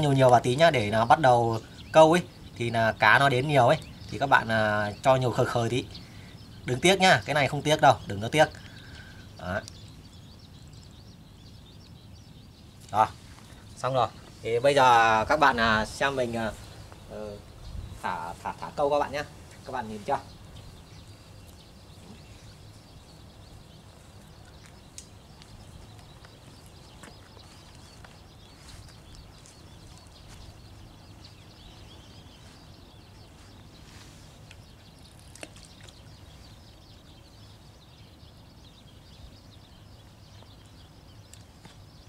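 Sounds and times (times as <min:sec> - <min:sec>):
faint birdsong: 0:00.0 - 0:42.0.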